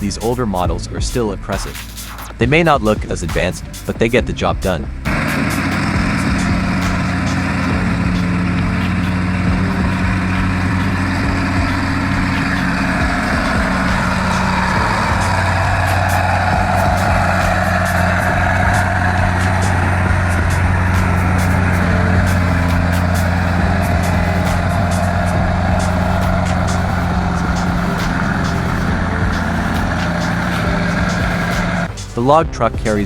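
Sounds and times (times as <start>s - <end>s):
heavy truck and bulldozer engines: 5.0s - 32.0s.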